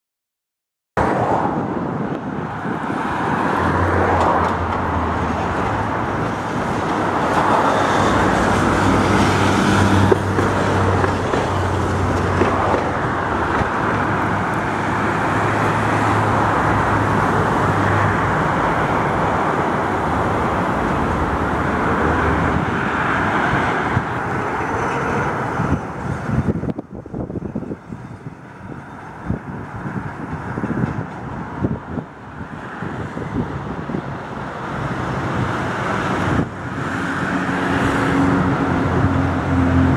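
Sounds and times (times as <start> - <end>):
road traffic: 1.0 - 39.9
tram passing: 1.0 - 39.9.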